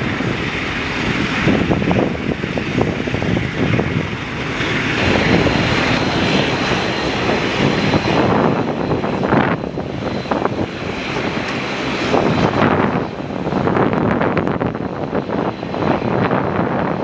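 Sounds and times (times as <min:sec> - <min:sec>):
airliner engines rushing: 0:00.0 - 0:17.0.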